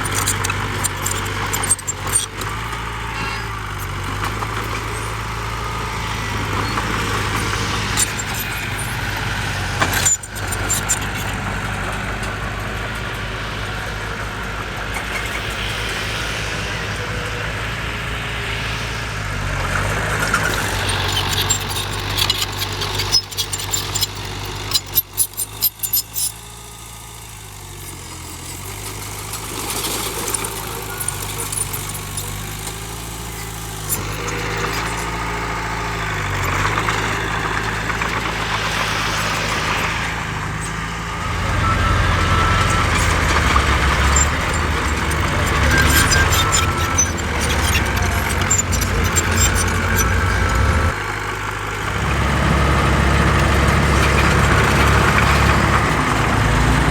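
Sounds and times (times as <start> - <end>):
heavy diesel engines: 0.0 - 56.9.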